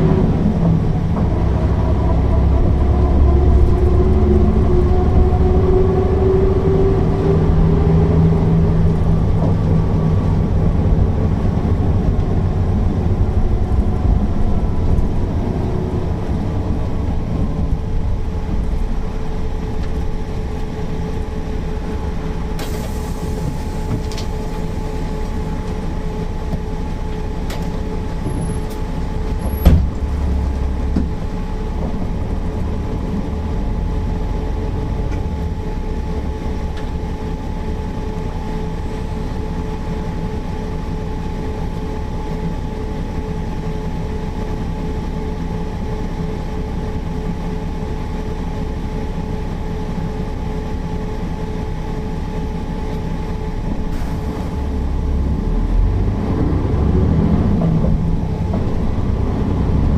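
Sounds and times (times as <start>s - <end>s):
diesel bus engine running: 0.0s - 59.9s.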